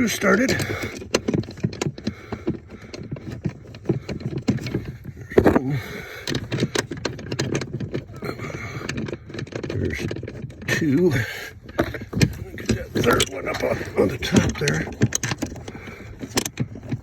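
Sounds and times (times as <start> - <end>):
brake pedal parts clicking and knocking: 0.0 - 17.0.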